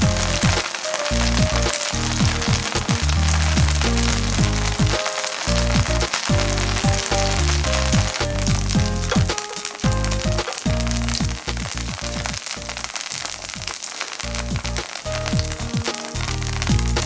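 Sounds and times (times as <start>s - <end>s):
background music with deep bass: 0.0s - 17.0s
food sizzling in a pan: 0.0s - 17.0s.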